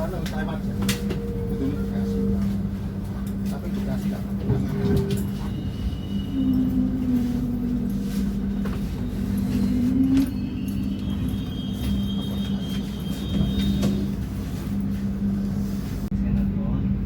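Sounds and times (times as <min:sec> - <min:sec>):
faint high whine: 0:00.0 - 0:15.0
passenger train rumbling: 0:00.0 - 0:17.0.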